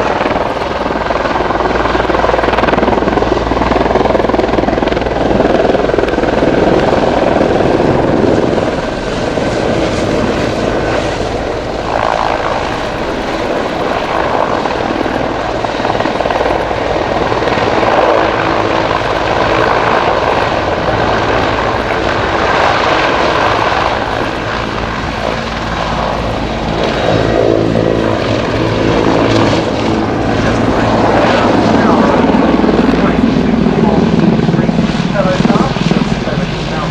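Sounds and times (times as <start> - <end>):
helicopter engines and rotor: 0.0 - 36.9.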